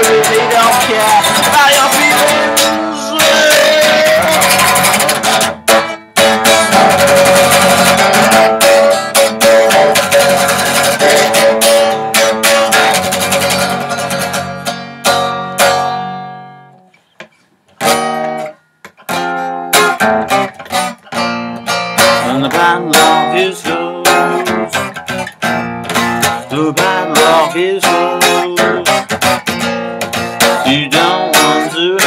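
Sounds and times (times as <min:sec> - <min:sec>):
electric guitar strumming chords: 0:00.0 - 0:16.9, 0:17.8 - 0:32.0.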